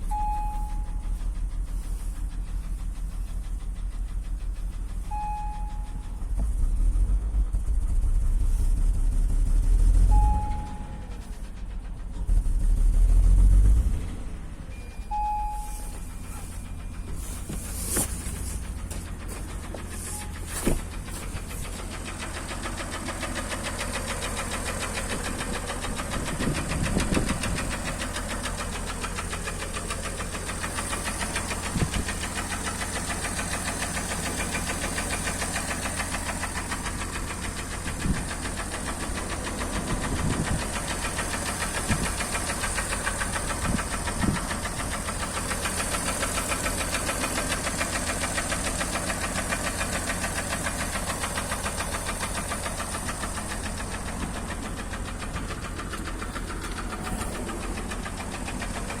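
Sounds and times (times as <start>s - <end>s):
engine running with rapid knock: 0.0s - 59.0s.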